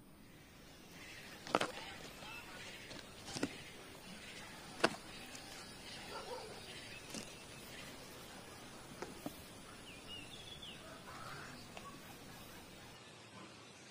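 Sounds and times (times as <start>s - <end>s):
faint outdoor background noise: 0.0s - 13.9s
bird chirps: 0.6s - 13.0s.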